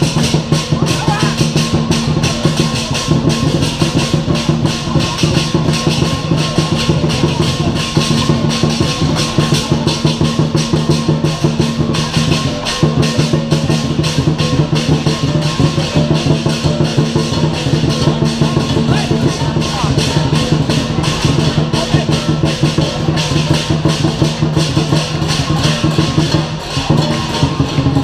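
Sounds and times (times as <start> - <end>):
gongs and cymbals crashing: 0.0 - 28.0
large drum beaten fast: 0.0 - 28.0.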